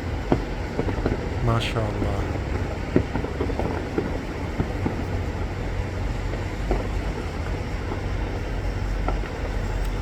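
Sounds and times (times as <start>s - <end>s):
distant fireworks popping: 0.0s - 10.0s
steady low rumble: 0.0s - 10.0s.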